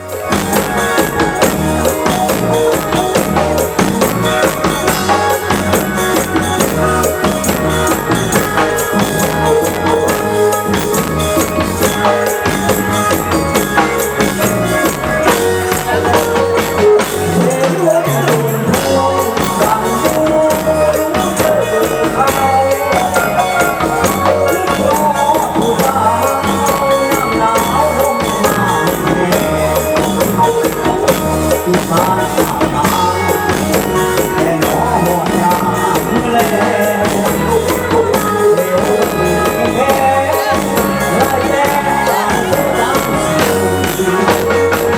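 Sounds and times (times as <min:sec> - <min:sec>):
drums and jingling percussion: 0:00.0 - 0:44.9
folk band playing dance tune: 0:00.0 - 0:44.9.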